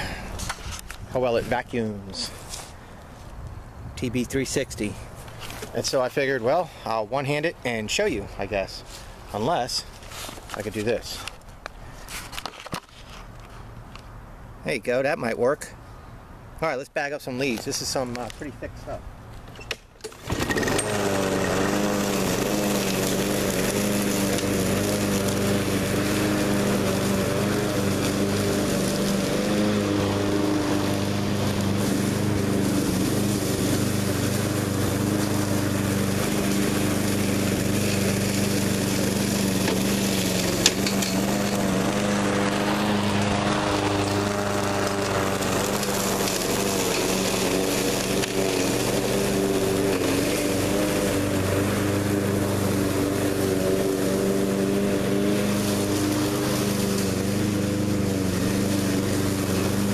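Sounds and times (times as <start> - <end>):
lawn mower engine mulching leaves: 0.0 - 13.9, 17.0 - 59.9.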